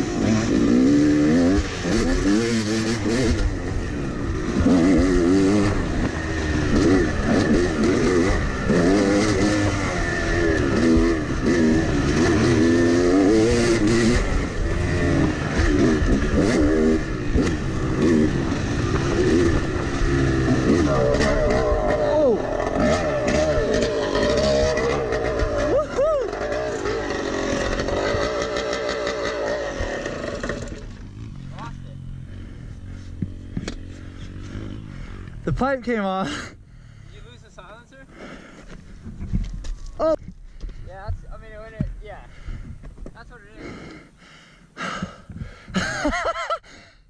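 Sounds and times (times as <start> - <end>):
two-stroke dirt bike engine revving: 0.0 - 38.5.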